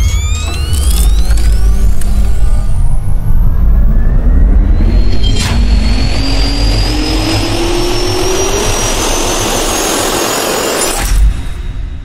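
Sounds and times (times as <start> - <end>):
jet turbine spooling up: 0.0 - 11.4.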